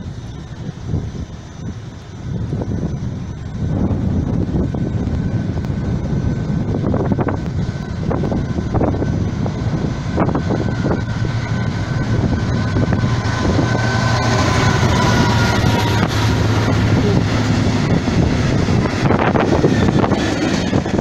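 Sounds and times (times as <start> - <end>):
diesel engine drone: 0.0 - 21.0
wheels rushing on rails: 0.0 - 21.0.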